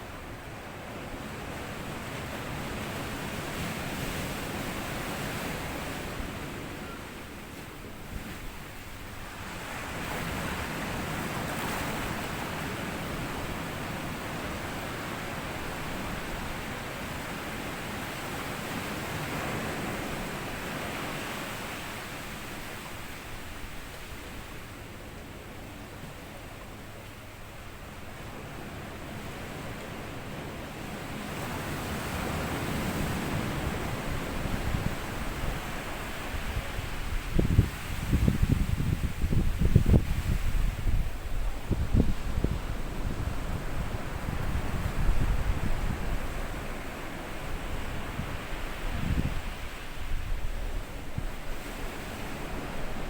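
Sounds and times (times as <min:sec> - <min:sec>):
waves washing on sandy beach: 0:00.0 - 0:53.0.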